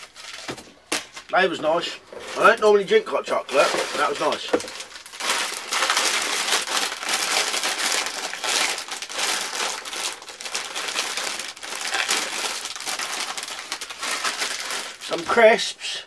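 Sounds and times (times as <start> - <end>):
packaging crinkling and rustling: 0.0 - 15.4.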